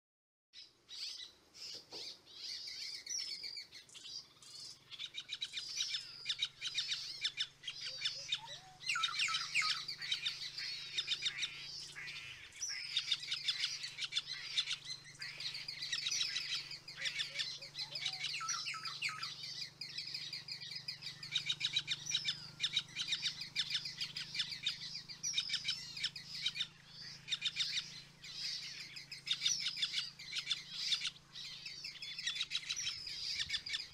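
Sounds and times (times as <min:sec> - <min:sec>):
woodpeckers chattering trills: 0:00.7 - 0:33.9.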